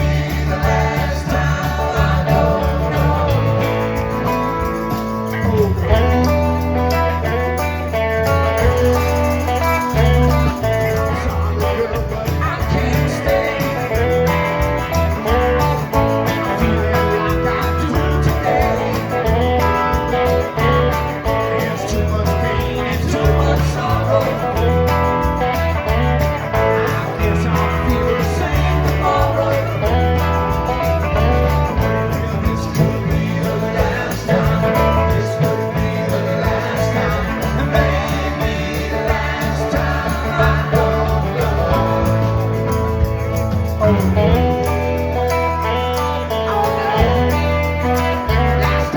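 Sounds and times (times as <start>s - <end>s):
person singing: 0.0s - 4.6s, 5.2s - 42.8s, 44.0s - 48.9s
rock band playing: 0.0s - 48.9s.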